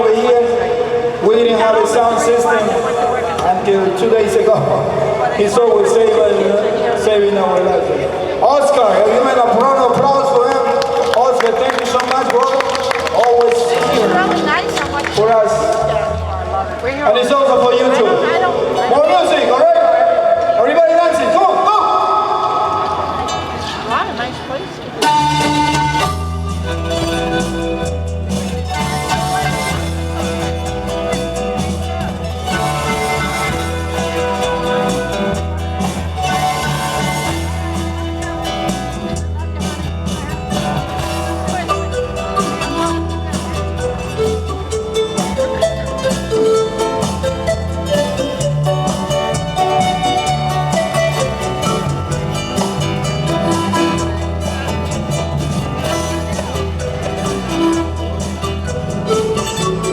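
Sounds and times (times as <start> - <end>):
live band music over pa: 0.0 - 20.5, 24.9 - 59.9.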